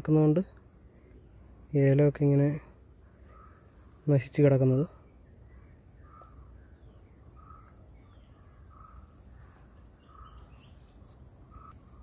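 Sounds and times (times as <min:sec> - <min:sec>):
other birds chirping faintly: 0:00.0 - 0:12.0.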